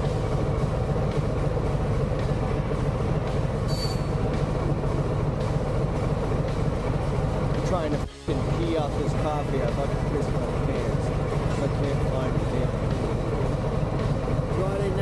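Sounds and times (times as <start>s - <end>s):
low motorcycle engine drone: 0.0s - 15.0s.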